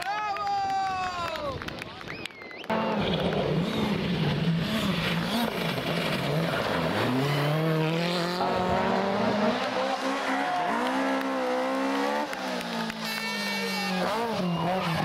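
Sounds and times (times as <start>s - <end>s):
rally car engines revving: 2.7s - 15.0s.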